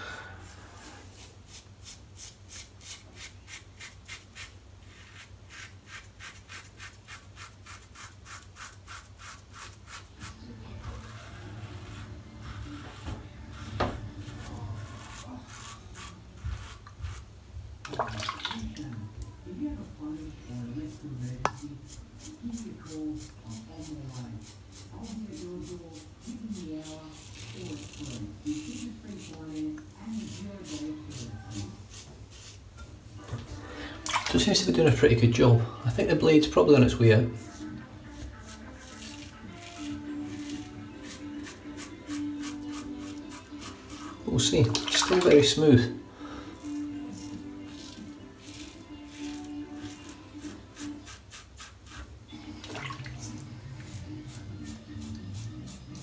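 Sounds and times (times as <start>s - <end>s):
razor scraping stubble: 1.2s - 17.3s, 20.2s - 32.6s, 36.4s - 45.8s, 46.5s - 52.1s, 53.7s - 56.0s.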